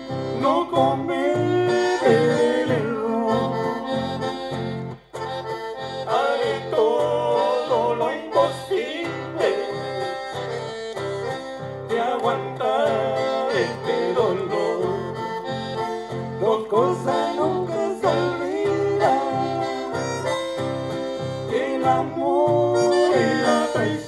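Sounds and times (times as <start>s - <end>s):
accordion-like lead melody: 0.0s - 24.0s
acoustic guitars: 0.0s - 24.0s.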